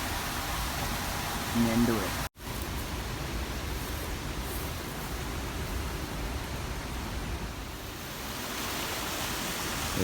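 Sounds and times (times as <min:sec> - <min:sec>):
waterfall and river roar: 0:00.0 - 0:10.0.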